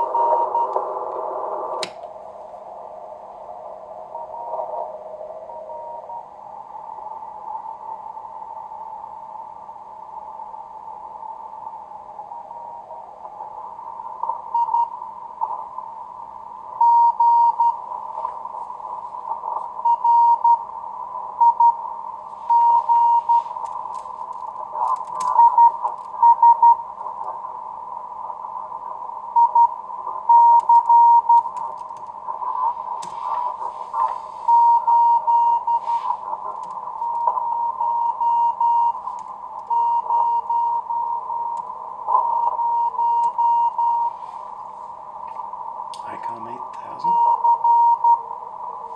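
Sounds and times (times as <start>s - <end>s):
radio hiss: 0.0s - 48.9s
static crackles: 0.0s - 48.9s.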